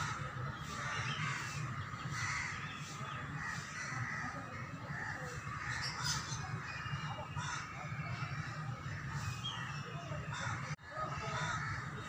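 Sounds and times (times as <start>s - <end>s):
harsh bird calls: 0.0s - 12.0s.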